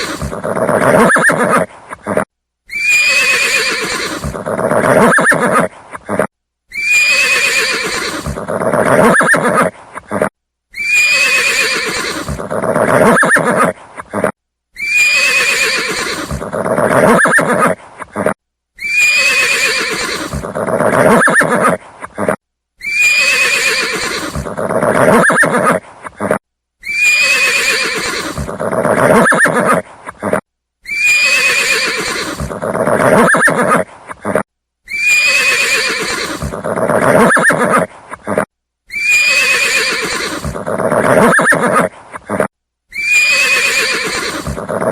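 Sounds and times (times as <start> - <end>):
horse whinnying: 0.0 - 44.9.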